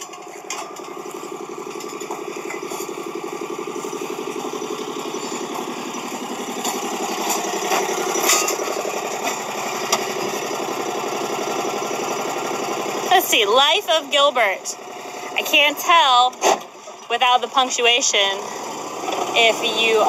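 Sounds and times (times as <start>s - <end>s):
small vehicle engine running: 0.0s - 20.0s.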